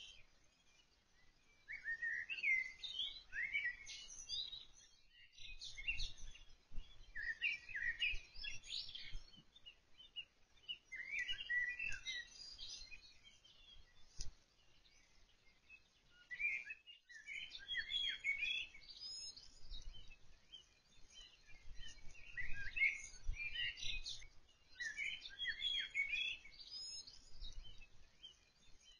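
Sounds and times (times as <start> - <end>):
songbird chirping and warbling: 0.0 - 28.9.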